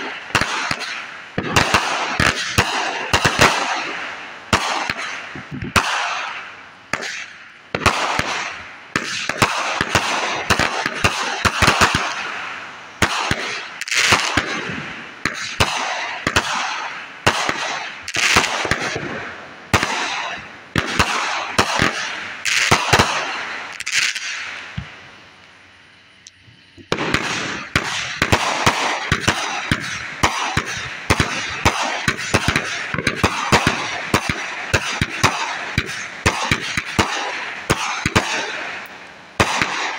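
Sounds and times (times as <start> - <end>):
firework crackling: 0.0 - 39.9
firework shells bursting: 0.0 - 39.9.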